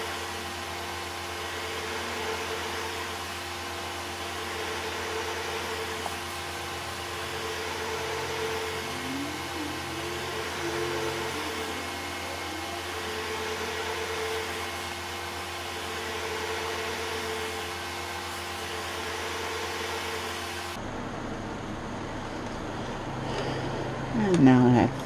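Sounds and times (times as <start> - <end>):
motor whirring with low hum: 0.0 - 25.0.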